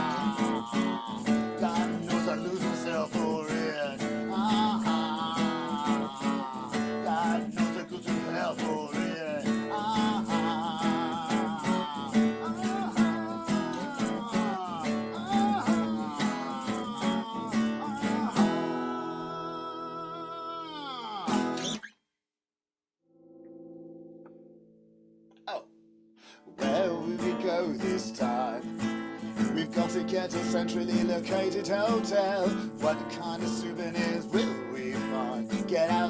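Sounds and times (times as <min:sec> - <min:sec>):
acoustic guitar strumming: 0:00.0 - 0:20.4, 0:21.3 - 0:21.8, 0:26.4 - 0:36.0.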